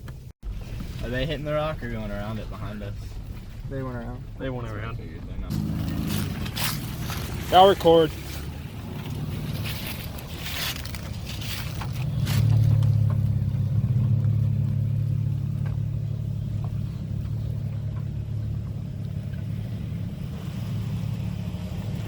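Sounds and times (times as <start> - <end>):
truck engine at low revs: 0.0 - 22.0.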